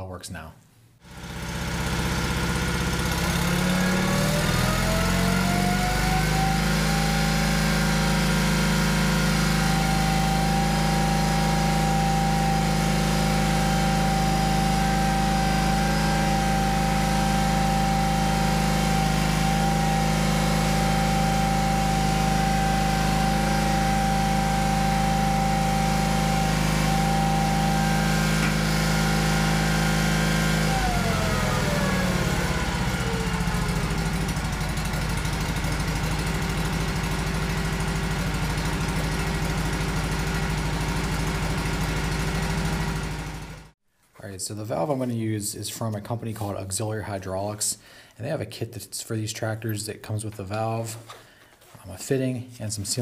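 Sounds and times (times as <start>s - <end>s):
tractor engine revving: 1.0s - 43.8s.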